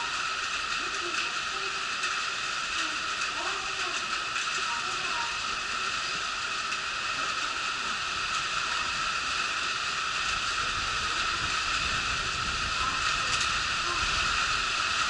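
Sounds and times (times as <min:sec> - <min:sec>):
even hiss: 0:00.0 - 0:15.0
high whine-like hum: 0:00.0 - 0:15.0.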